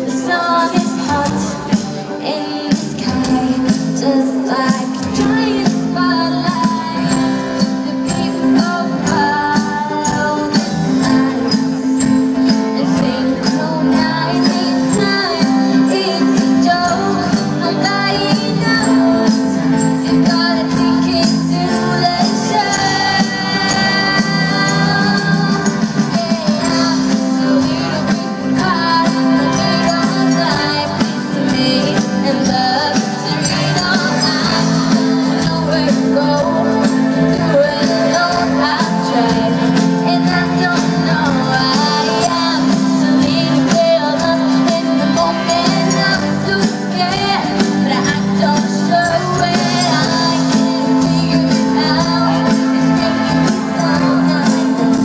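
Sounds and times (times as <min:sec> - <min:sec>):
keyboards: 0:00.0 - 0:55.0
live pop band playing: 0:00.0 - 0:55.0
woman singing lead vocal: 0:00.0 - 0:55.0.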